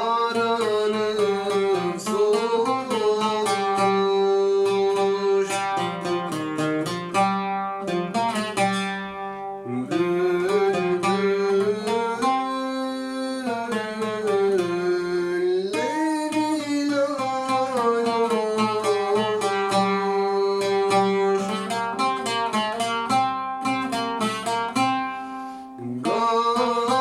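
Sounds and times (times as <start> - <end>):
person singing ornamented melody: 0.0 - 6.6, 8.5 - 23.0, 25.8 - 27.0
plucked string instrument: 0.0 - 27.0.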